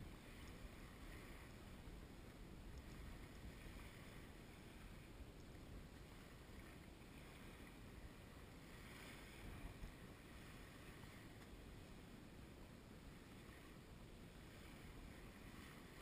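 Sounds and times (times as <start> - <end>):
light wind on microphone: 0.0 - 16.0.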